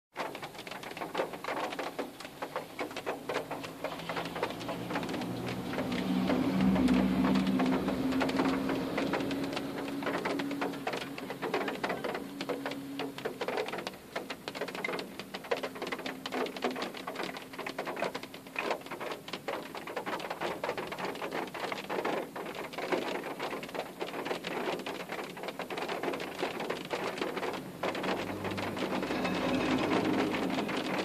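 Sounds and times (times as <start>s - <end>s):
rain on a car roof: 0.1s - 31.0s.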